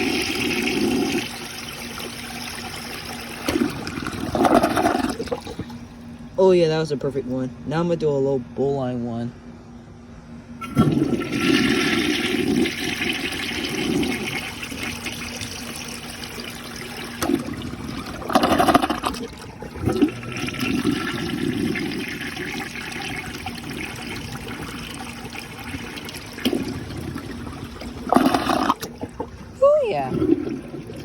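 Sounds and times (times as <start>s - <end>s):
toilet flushing: 0.0s - 5.9s, 10.6s - 31.0s.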